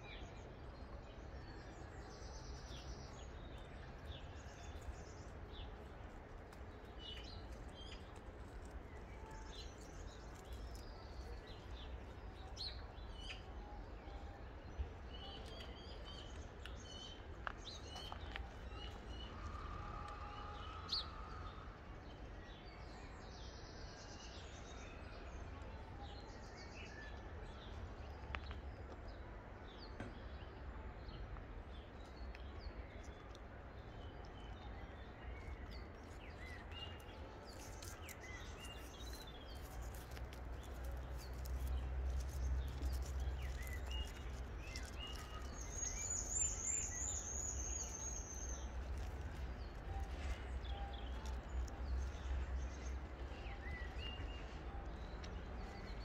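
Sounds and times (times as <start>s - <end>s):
small birds chirping: 0.2s - 29.3s, 31.1s - 56.0s.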